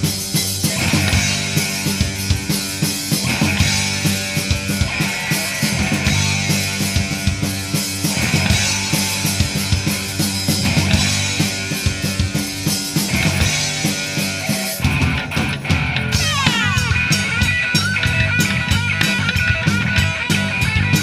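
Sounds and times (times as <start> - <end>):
drum kit: 0.0 - 21.0
electric guitar: 0.0 - 21.0
rock band playing: 0.0 - 21.0.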